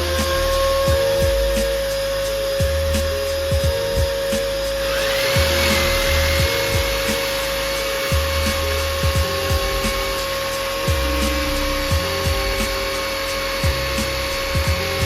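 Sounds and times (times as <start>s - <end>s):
music with deep bass beat: 0.0s - 15.0s
rising whine over hiss: 0.0s - 15.0s.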